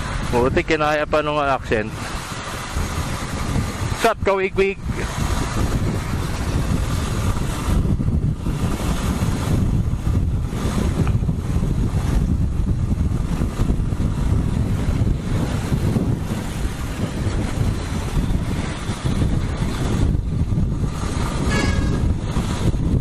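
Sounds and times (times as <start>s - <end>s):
wind rumbling over microphone: 0.0s - 23.0s.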